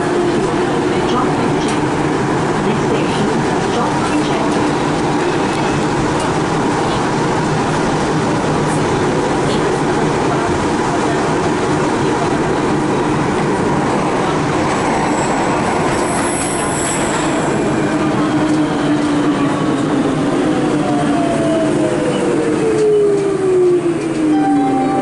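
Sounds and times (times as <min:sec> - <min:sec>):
falling whine of slowing train: 0:00.0 - 0:25.0
train rolling roar: 0:00.0 - 0:25.0.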